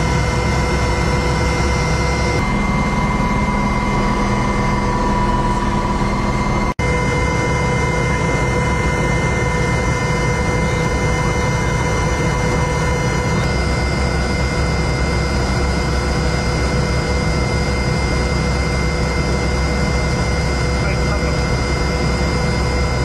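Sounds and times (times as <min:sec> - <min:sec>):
helicopter engines and rotor drone: 0:00.0 - 0:23.0.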